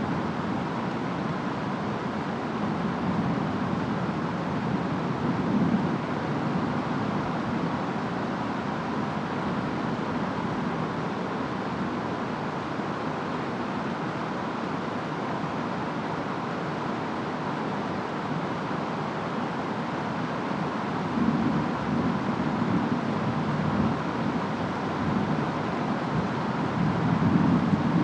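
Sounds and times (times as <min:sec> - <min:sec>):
rain: 0:00.0 - 0:28.0
wind: 0:00.0 - 0:28.0.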